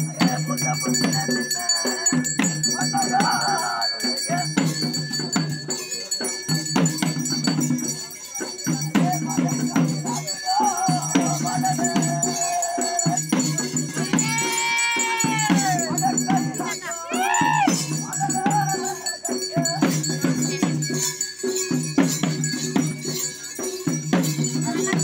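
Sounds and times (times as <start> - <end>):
drum strokes: 0.0 - 25.0
jingling rattle percussion: 0.0 - 25.0.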